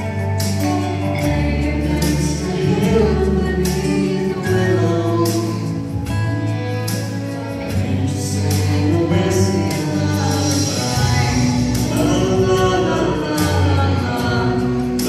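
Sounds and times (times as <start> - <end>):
instrumental accompaniment: 0.0 - 15.0
low bass notes: 0.0 - 15.0
man and woman singing duet: 0.6 - 15.0.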